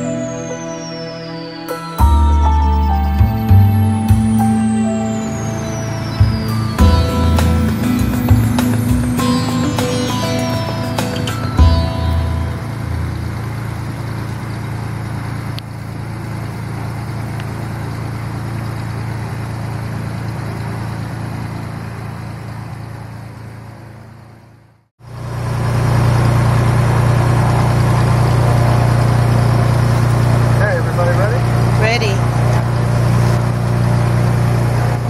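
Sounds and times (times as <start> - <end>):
aircraft engine drone in cabin: 0.0 - 35.0.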